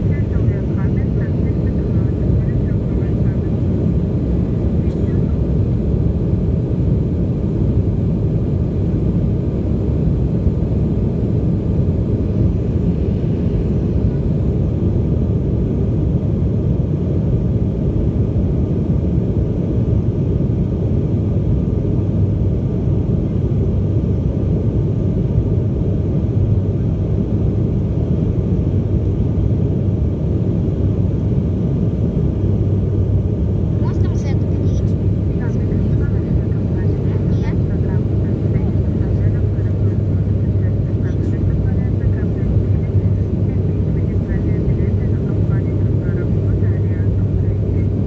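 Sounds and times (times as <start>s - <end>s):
airplane cabin engine roar: 0.0s - 48.0s.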